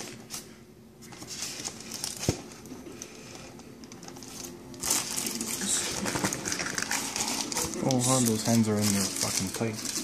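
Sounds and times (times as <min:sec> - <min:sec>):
packing material rustling: 0:00.0 - 0:10.0.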